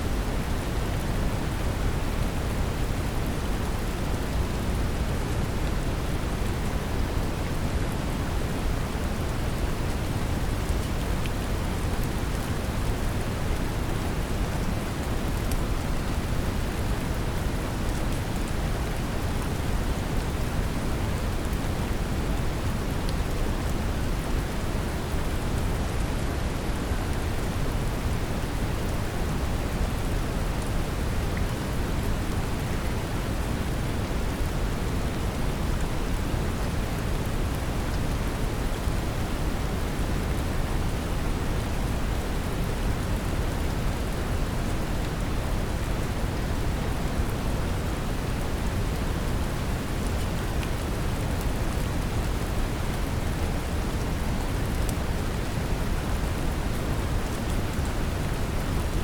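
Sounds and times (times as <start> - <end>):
rain: 0.0 - 59.0.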